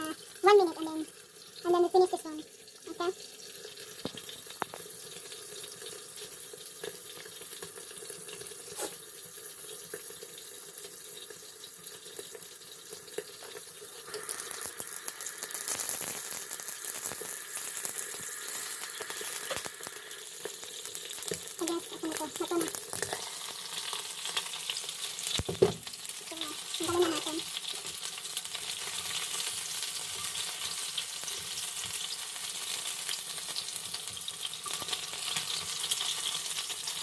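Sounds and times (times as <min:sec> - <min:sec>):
chicken frying in hot oil: 0:00.0 - 0:37.0
oil popping and crackling: 0:00.0 - 0:37.0.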